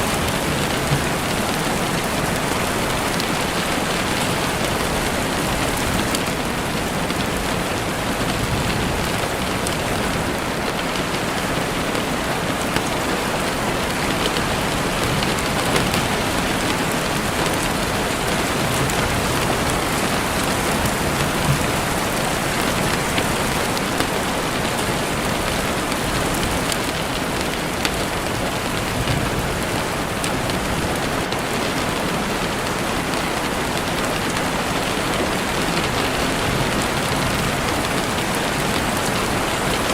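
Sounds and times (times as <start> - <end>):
heavy rain on window: 0.0 - 39.9.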